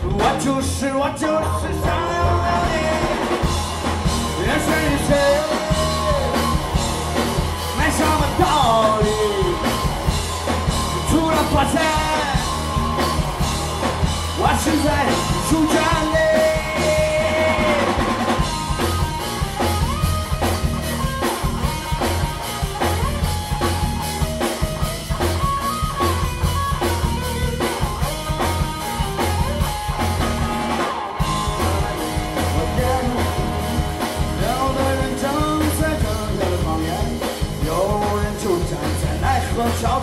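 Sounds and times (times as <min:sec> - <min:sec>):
bass guitar: 0:00.0 - 0:40.0
steady drum beat: 0:00.0 - 0:40.0
electric guitar bending notes: 0:01.2 - 0:37.0.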